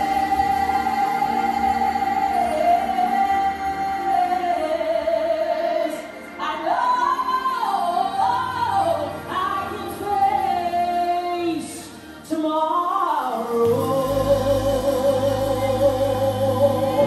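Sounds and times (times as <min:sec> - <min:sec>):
band with keyboards and bass: 0:00.0 - 0:17.0
woman singing: 0:00.0 - 0:17.0.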